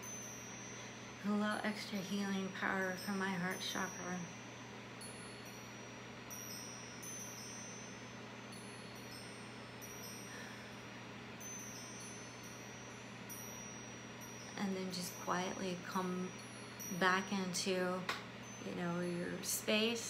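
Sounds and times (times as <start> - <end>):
steady low hum: 0.0 - 20.0
wind chime tinkling: 0.0 - 20.0.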